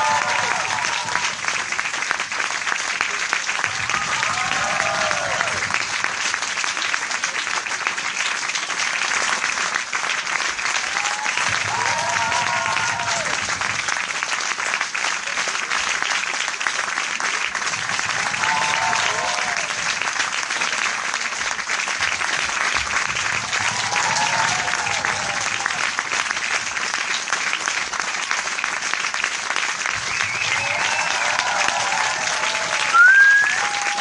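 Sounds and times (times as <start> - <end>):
crowd applauding: 0.0 - 34.0.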